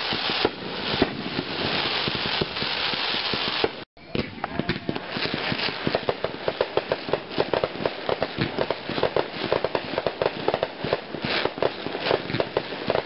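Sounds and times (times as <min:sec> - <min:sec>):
fireworks crackle: 0:00.0 - 0:13.0
fireworks pops and bangs: 0:00.0 - 0:13.0.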